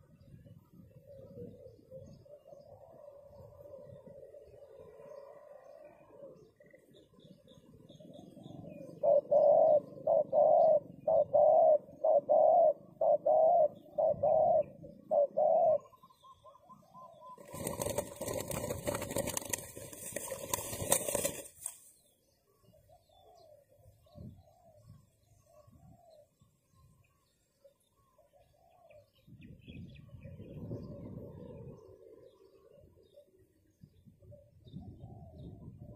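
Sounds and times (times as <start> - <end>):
dove cooing: 0.0 - 21.6, 22.5 - 35.9.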